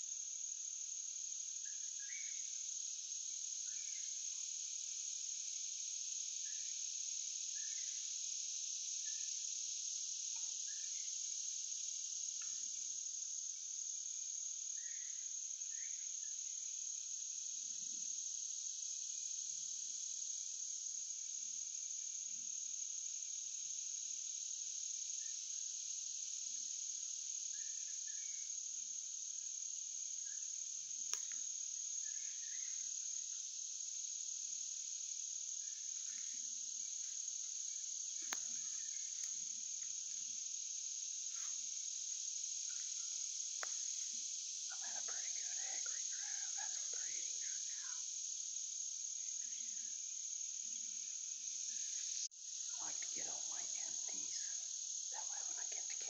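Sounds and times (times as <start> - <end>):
insect chorus of crickets: 0.0 - 56.0.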